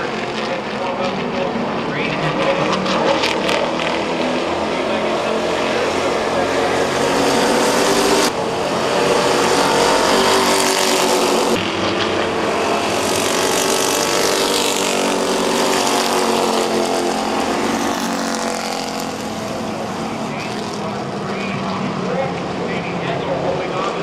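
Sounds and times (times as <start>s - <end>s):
racing car engines: 0.0s - 24.0s.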